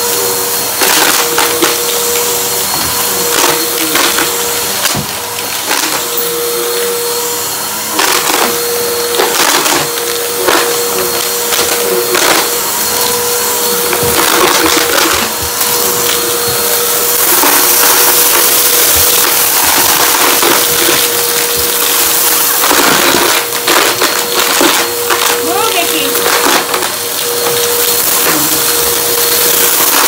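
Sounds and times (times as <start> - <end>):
vacuum cleaner motor whine: 0.0 - 30.0
vacuum crackling on debris: 0.0 - 30.0.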